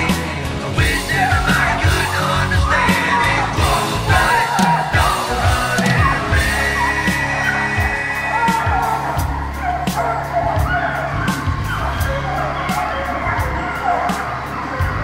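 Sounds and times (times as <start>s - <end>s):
bass: 0.0s - 15.0s
drum beat: 0.0s - 15.0s
person singing and shouting: 0.0s - 15.0s.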